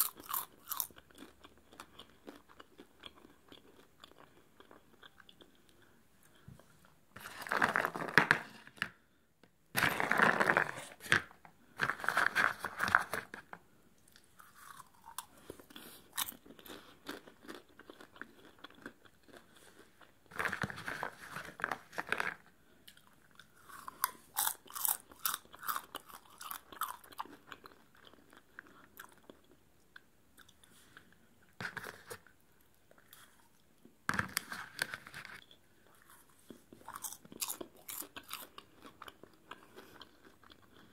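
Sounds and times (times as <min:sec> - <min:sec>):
crunching popcorn bites: 0:00.0 - 0:06.5, 0:11.6 - 0:40.9
soft chewing: 0:00.0 - 0:07.0, 0:12.8 - 0:40.9.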